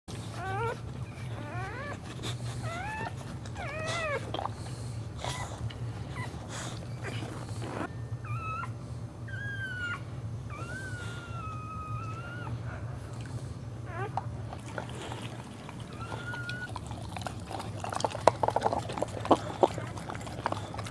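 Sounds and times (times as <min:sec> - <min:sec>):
dog whining: 0:00.1 - 0:13.2, 0:13.8 - 0:20.9
steady low hum: 0:00.1 - 0:20.9.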